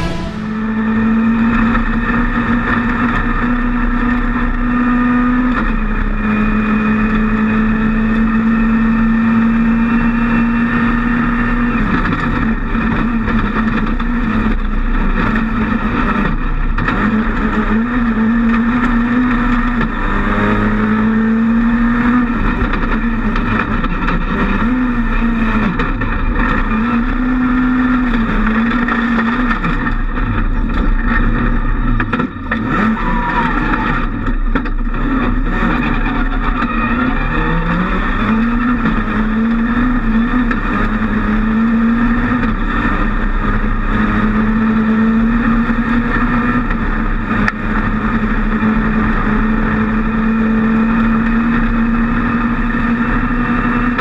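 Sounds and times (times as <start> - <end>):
gravel road noise: 0.0 - 54.0
rally car engine revving: 0.0 - 54.0.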